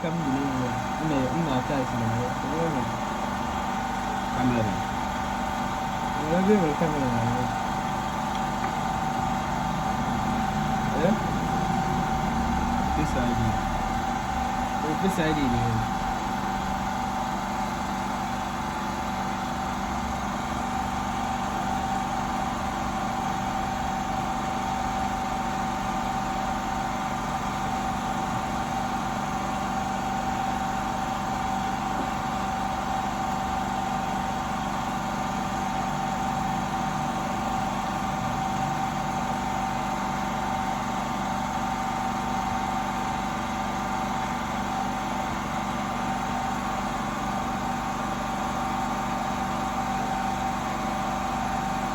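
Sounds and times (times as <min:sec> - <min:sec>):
machine hum with whine: 0:00.0 - 0:51.9.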